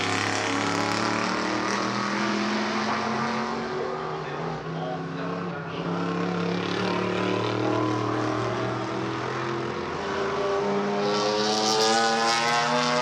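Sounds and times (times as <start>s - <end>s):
race car engine accelerating: 0.0s - 13.0s.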